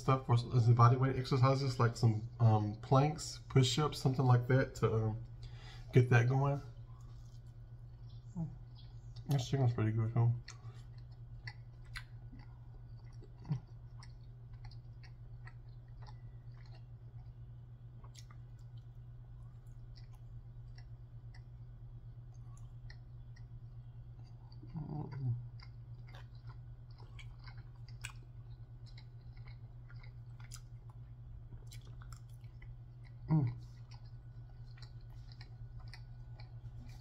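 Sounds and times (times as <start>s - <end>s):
close chewing and mouth sounds: 0.0s - 37.0s
steady low hum: 0.0s - 37.0s.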